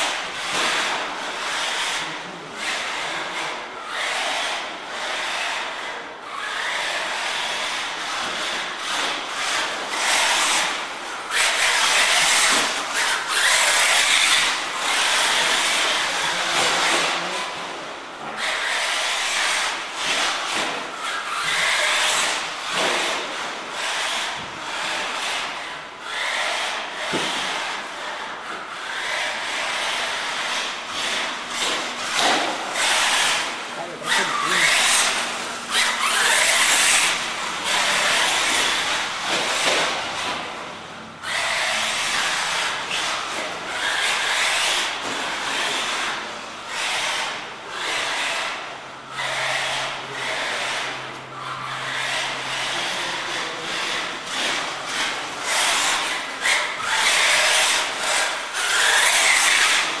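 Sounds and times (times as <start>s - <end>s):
rc car scrabbling on dirt: 0.0s - 60.0s.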